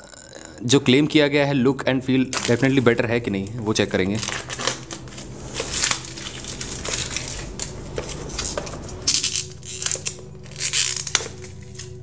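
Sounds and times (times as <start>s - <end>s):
plastic wrap crinkling and tearing: 2.2s - 12.0s.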